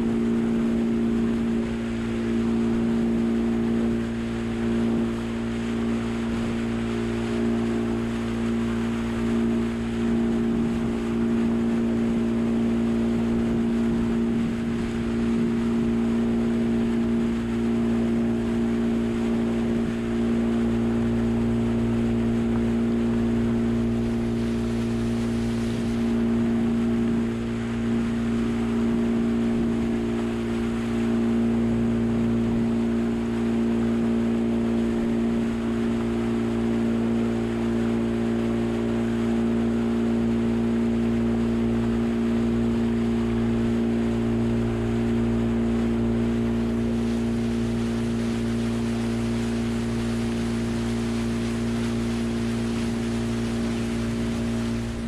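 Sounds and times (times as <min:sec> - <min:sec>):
outboard motor droning: 0:00.0 - 0:55.0
water rushing past hull: 0:00.0 - 0:55.0.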